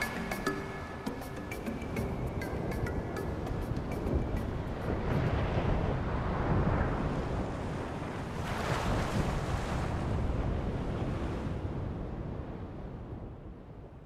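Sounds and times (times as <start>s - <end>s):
surf washing: 0.0s - 12.8s.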